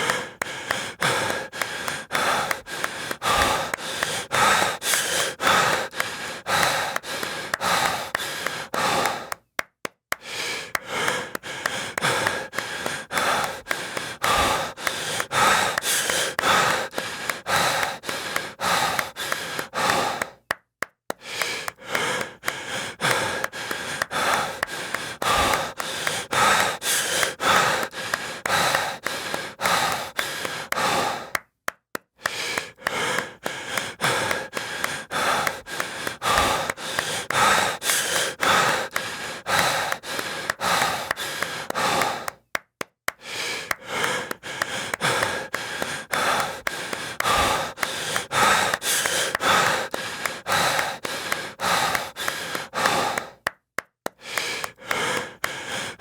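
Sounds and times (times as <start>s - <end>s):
heavy gasping breathing: 0.0s - 9.5s, 10.1s - 31.5s, 32.2s - 56.0s
hand claps: 0.0s - 56.0s.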